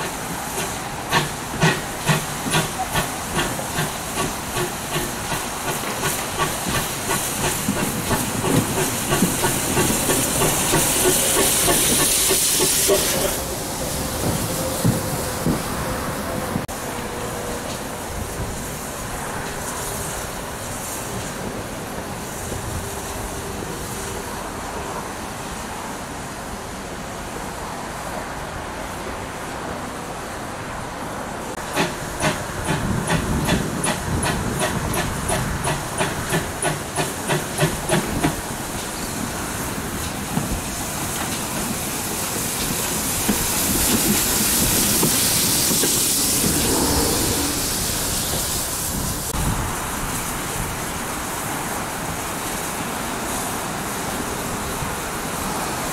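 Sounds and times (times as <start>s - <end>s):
steam locomotive chuffing: 0.0s - 24.7s, 31.5s - 55.9s
steam hissing: 0.0s - 27.4s, 31.6s - 55.9s.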